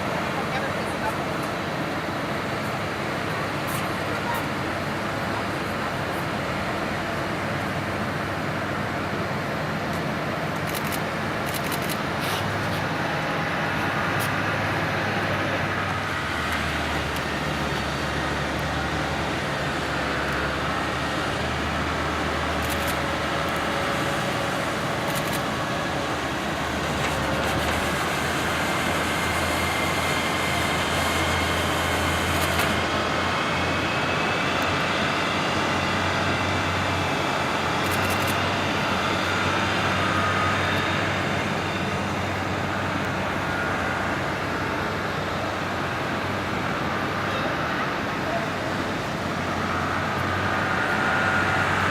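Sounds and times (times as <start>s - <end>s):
propeller aircraft engine rumble: 0.0s - 51.9s.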